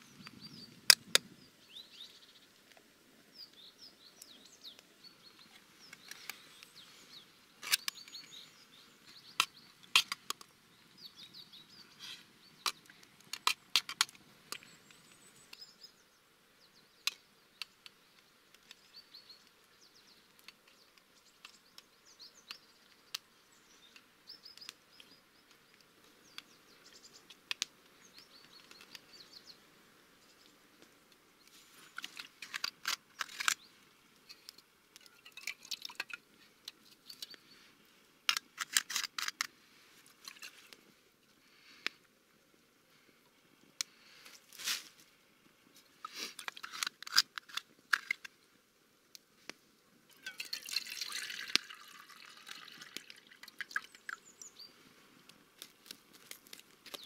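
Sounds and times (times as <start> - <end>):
small birds chirping: 0.0 - 44.5, 49.4 - 57.0.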